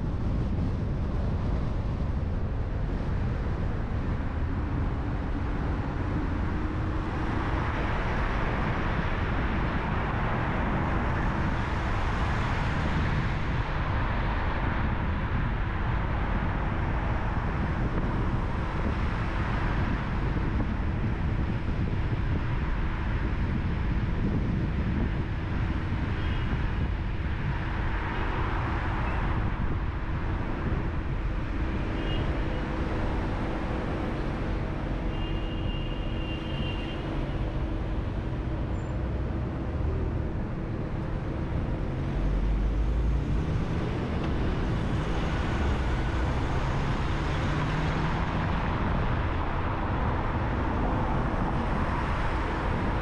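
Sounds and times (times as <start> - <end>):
car road and engine noise: 0.0 - 53.0.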